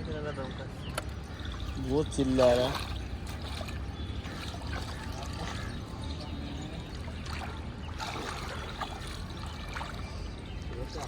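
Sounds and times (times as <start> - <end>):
faint voices: 0.4 - 11.0
water trickling and splashing: 0.9 - 11.0.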